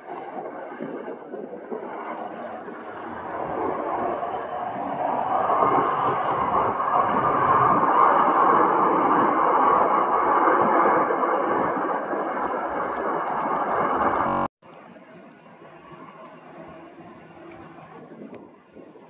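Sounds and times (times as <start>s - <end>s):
aircraft engines roaring: 0.2s - 19.0s.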